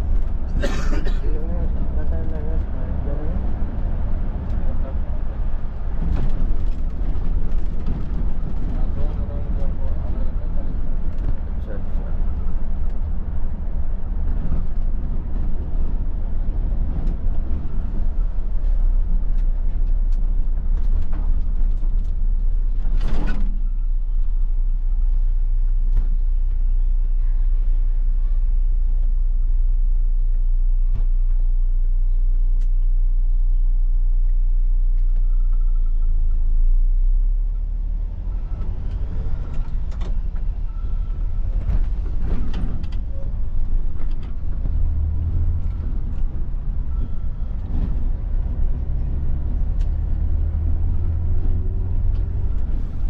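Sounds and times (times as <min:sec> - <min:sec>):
coach engine and road noise: 0:00.0 - 0:53.0.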